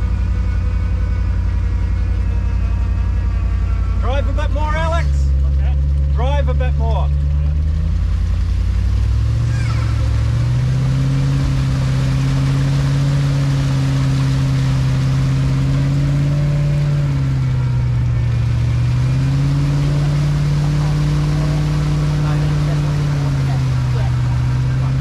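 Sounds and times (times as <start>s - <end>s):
off-road vehicle engine revving: 0.0s - 25.0s
wheels spinning in mud: 0.0s - 25.0s.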